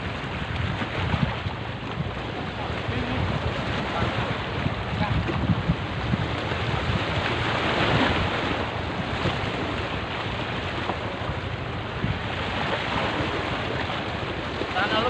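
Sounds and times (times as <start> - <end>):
waves splashing against rocks: 0.0 - 15.0
wind buffeting microphone: 0.0 - 15.0.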